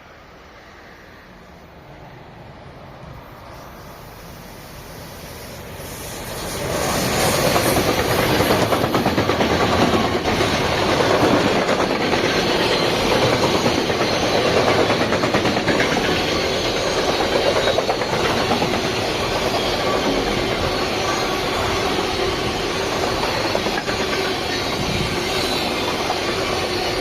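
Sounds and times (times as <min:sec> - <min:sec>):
train passing with rattle: 0:00.0 - 0:27.0.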